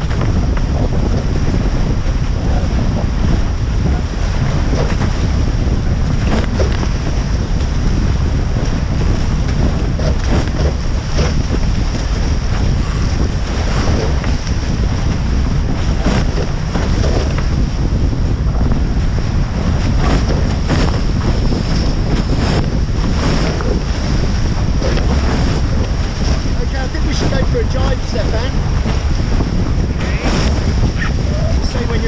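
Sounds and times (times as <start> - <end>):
rushing water: 0.0 - 32.0
wind buffeting microphone: 0.0 - 32.0.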